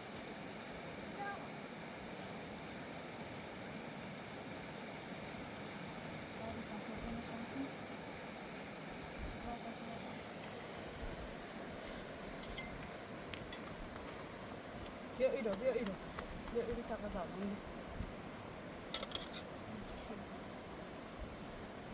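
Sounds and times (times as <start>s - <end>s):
cricket chirping: 0.0s - 21.9s.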